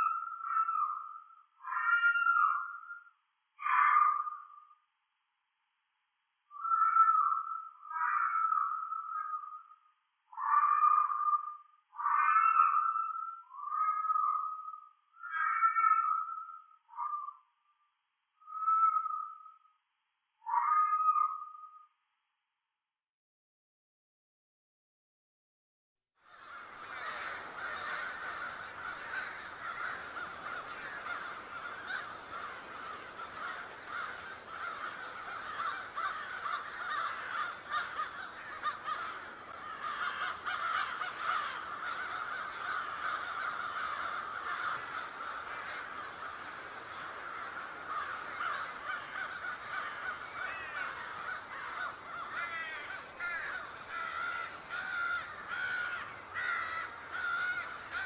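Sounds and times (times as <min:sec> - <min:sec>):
crows cawing: 0:00.0 - 0:04.8, 0:06.6 - 0:17.4, 0:20.5 - 0:21.8, 0:26.2 - 0:58.0.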